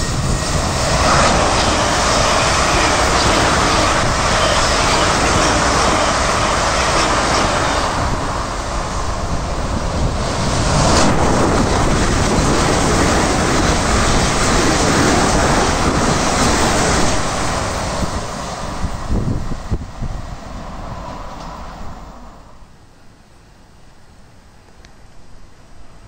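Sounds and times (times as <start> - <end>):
train wheels rumbling on rails: 0.0 - 22.8.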